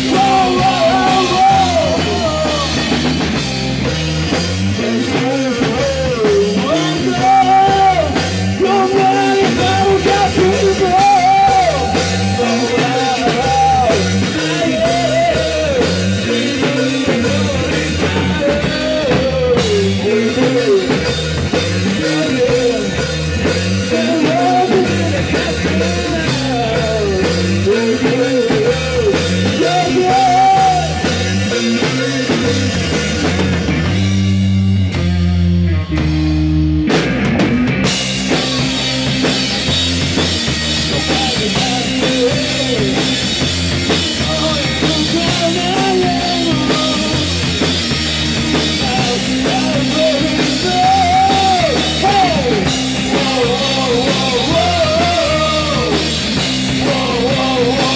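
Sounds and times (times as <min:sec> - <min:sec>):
man singing: 0:00.0 - 0:03.3, 0:04.3 - 0:32.6, 0:38.3 - 0:57.9
drum kit: 0:00.0 - 0:57.9
electric guitar: 0:00.0 - 0:57.9.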